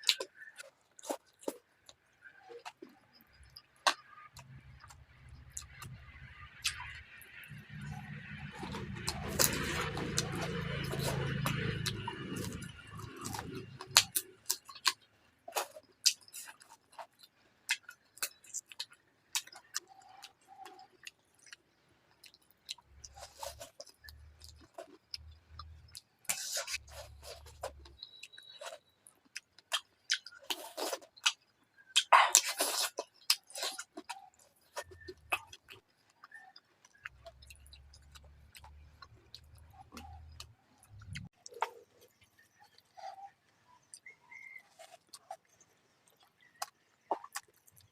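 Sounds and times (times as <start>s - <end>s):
chewing and wet smacking: 0.0s - 47.9s.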